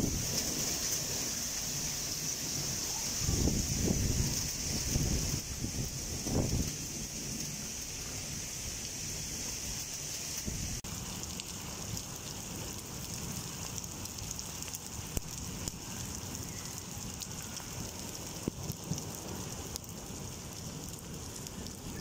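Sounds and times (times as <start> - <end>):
heavy rain on concrete roof: 0.0 - 22.0
sharp rain taps: 0.0 - 22.0.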